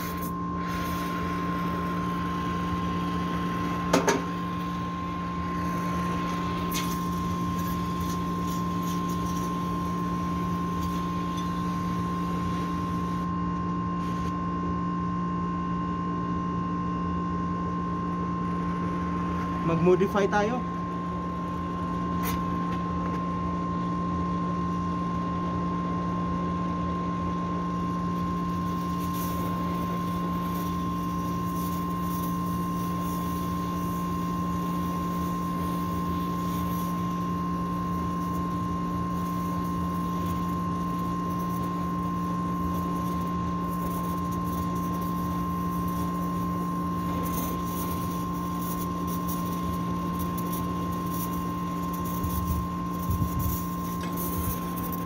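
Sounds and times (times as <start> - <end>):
gas torch hissing: 0.0 - 13.3, 14.0 - 14.4, 18.9 - 23.2, 26.9 - 55.0
machine hum with high whine: 0.0 - 55.0.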